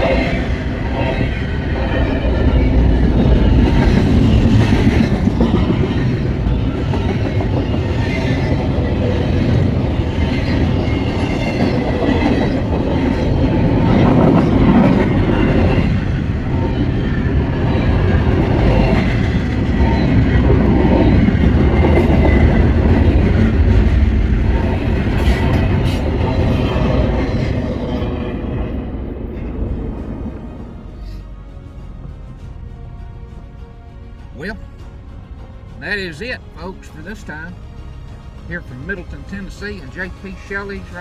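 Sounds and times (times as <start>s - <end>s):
freight train wheels rumbling on rails: 0.0s - 41.0s.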